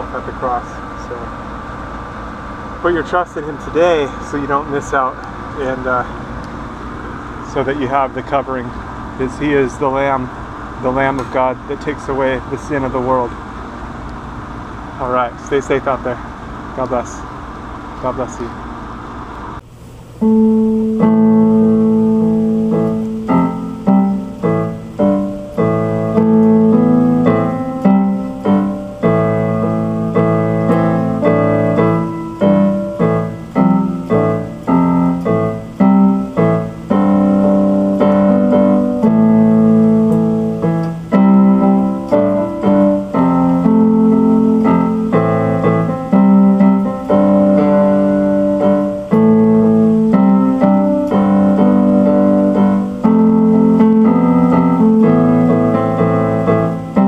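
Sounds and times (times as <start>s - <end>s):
electronic keyboard piano music: 0.0s - 13.3s, 20.2s - 57.0s.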